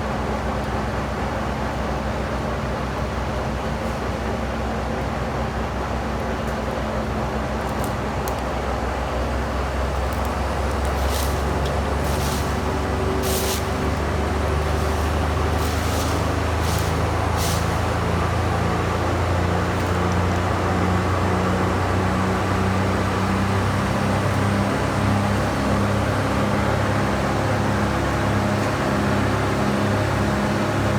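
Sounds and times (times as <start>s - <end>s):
large engine rumbling: 0.0s - 30.9s.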